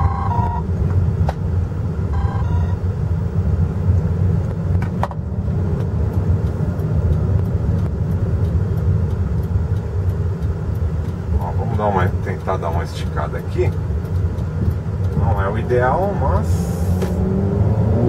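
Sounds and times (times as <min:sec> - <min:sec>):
car cabin engine and road rumble: 0:00.0 - 0:18.0.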